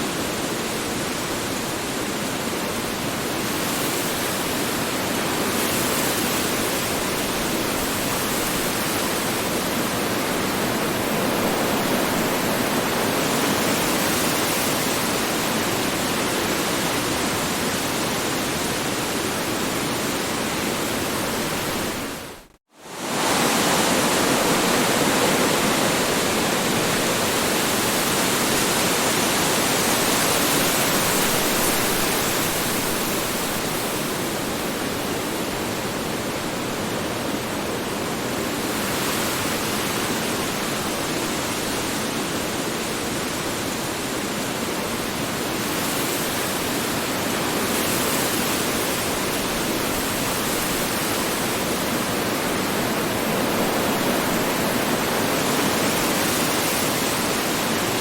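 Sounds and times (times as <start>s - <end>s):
strong wind blowing: 5.4s - 58.0s.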